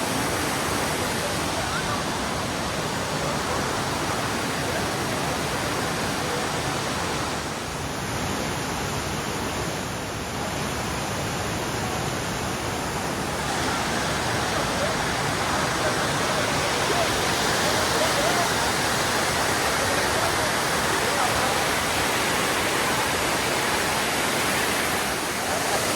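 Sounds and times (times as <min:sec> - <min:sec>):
rushing water: 0:00.0 - 0:25.9.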